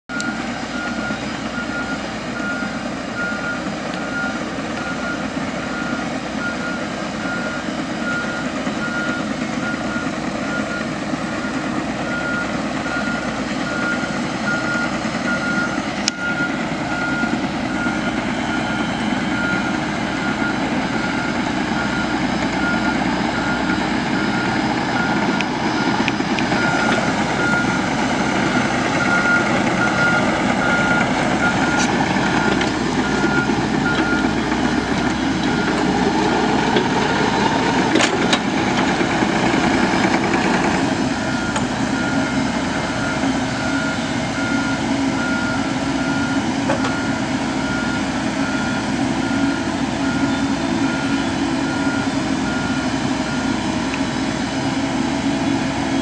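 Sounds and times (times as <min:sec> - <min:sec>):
travel alarm beeping: 0:00.1 - 0:37.5, 0:41.1 - 0:53.7
diesel excavator engine running: 0:00.1 - 0:56.0.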